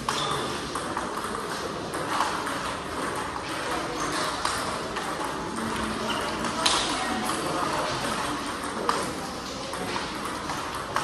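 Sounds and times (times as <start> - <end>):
balls bouncing on table: 0.0 - 11.0
ping pong balls clicking: 0.0 - 11.0.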